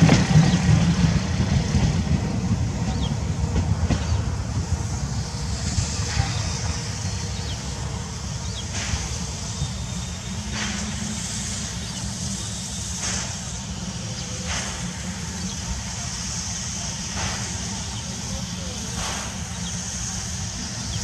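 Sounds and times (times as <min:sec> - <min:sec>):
steam hissing: 0:00.0 - 0:21.0
steam locomotive exhaust chuffs: 0:00.0 - 0:21.0.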